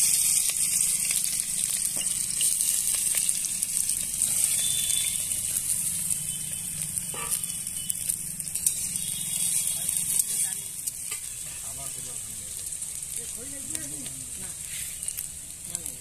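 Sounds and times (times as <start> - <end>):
faint crackles: 0.0 - 16.0
onions sizzling in hot oil: 0.0 - 16.0.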